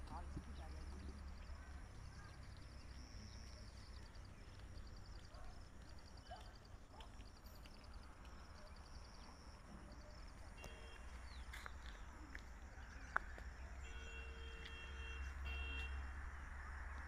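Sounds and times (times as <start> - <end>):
insects chirping: 0.0 - 16.8.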